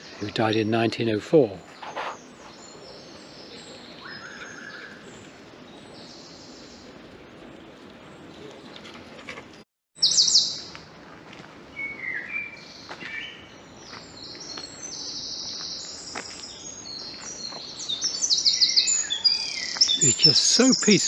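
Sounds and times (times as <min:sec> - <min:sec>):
songbirds chirping and trilling: 0:00.0 - 0:10.9, 0:11.6 - 0:21.0.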